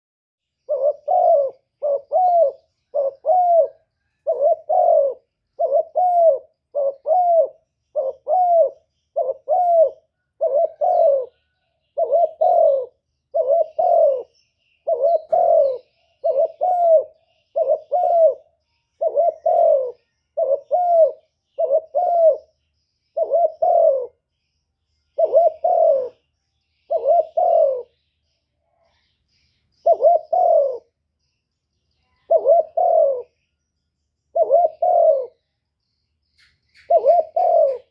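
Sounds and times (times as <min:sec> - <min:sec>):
bird calling mellow notes: 0:00.5 - 0:37.9.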